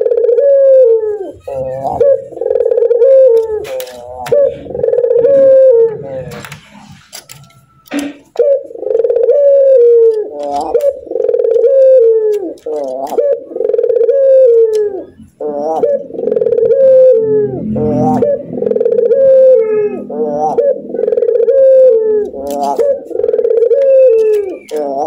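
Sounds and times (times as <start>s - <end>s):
dove cooing call: 0.0s - 25.0s.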